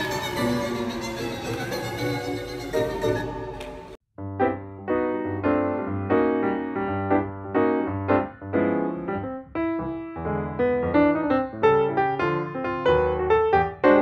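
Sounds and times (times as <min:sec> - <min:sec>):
piano background music: 0:00.0 - 0:14.0.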